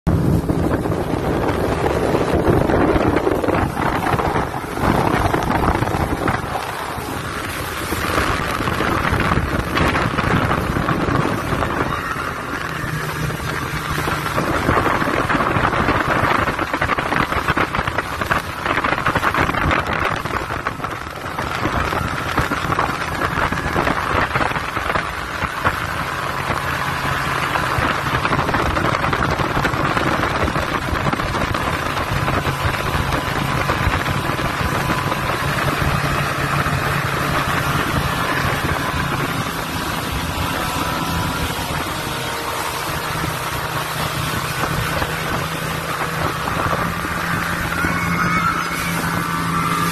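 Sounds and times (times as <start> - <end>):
motorboat engine: 0.0 - 49.9
rush of wake and spray: 0.0 - 49.9
wind buffeting microphone: 0.1 - 49.9.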